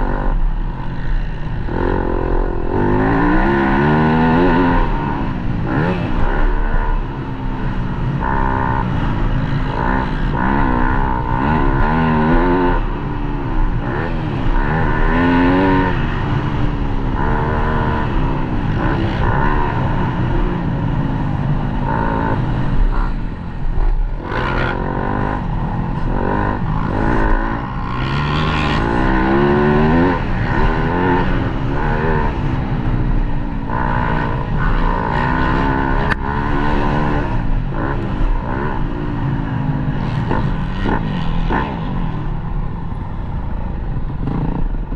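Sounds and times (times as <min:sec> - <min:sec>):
dirt bike engine revving: 0:00.0 - 0:42.4.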